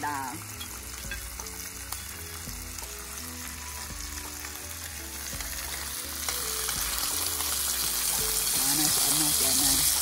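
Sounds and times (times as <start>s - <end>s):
background music: 0.0s - 10.0s
meat sizzling in a grill pan: 0.0s - 10.0s.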